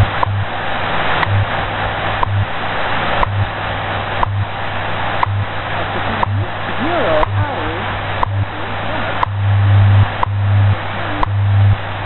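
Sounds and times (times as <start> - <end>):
low time-code hum: 0.0 - 12.0
radio static hiss: 0.0 - 12.0.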